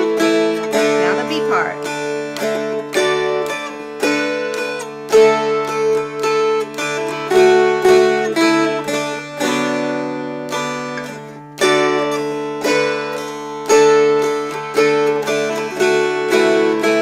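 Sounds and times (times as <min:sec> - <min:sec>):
dulcimers strummed: 0:00.0 - 0:17.0.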